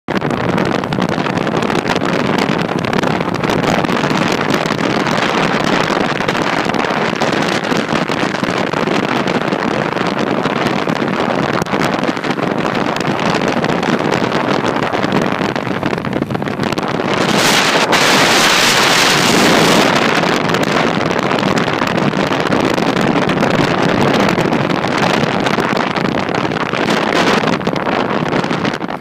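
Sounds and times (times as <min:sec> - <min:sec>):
car road noise: 0:00.1 - 0:29.0
wind rushing over microphone: 0:00.1 - 0:29.0.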